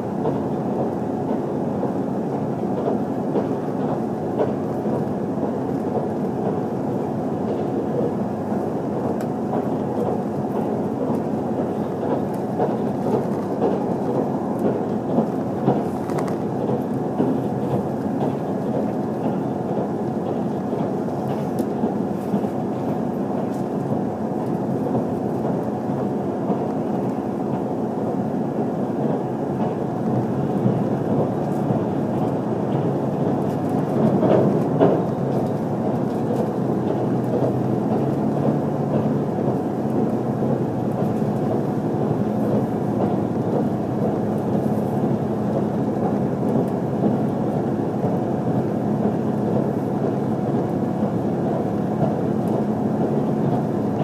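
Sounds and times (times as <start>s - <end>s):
constant hum: 0.0s - 54.0s
train wheels rumbling on rail: 0.0s - 54.0s.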